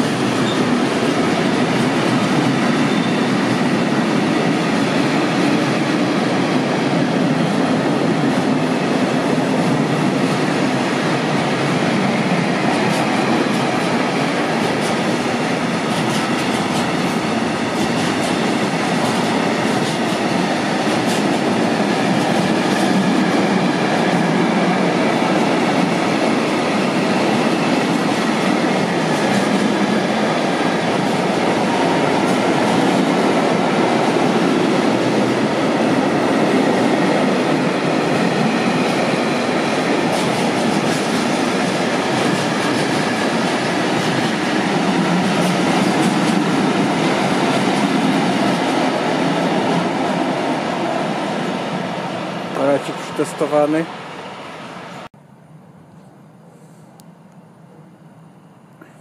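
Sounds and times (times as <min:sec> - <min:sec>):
freight train wheels rumbling: 0:00.0 - 0:55.2.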